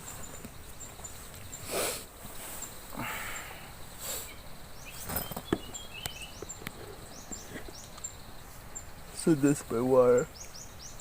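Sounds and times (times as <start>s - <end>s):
birds and insects chorus: 0.0s - 11.0s.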